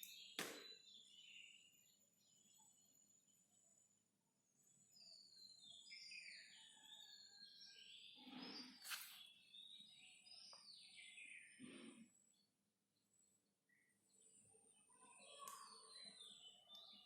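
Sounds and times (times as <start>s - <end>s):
faint birdsong whistled calls: 0.0s - 17.0s.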